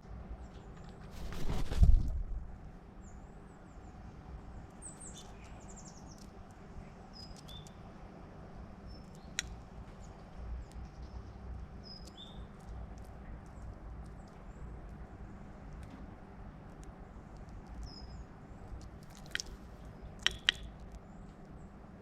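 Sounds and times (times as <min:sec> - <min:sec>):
faint low rumble: 0:00.0 - 0:22.0
small birds chirping: 0:02.8 - 0:22.0.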